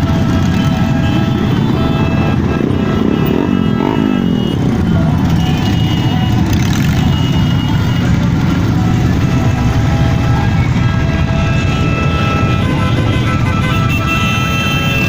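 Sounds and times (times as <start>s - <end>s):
motorcycle engines running: 0.0s - 15.0s.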